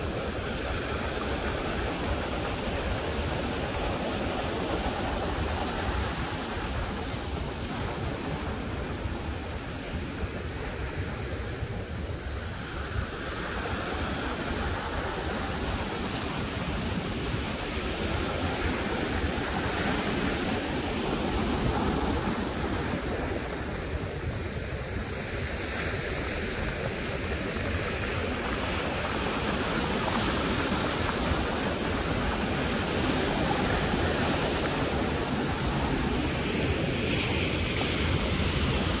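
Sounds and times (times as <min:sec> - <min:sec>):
ocean surf breaking on beach: 0:00.0 - 0:39.0.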